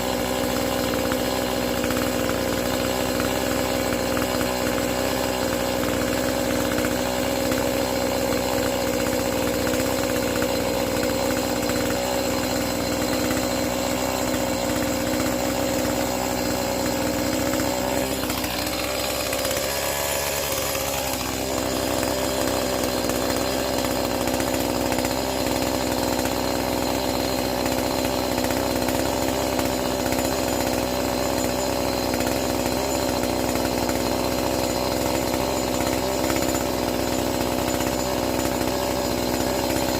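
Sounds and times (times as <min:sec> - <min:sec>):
chainsaw running at high speed: 0:00.0 - 0:39.9.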